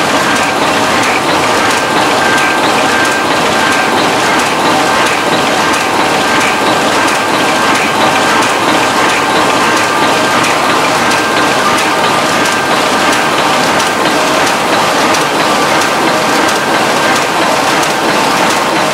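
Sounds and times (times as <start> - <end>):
printing press clattering: 0.0 - 18.9.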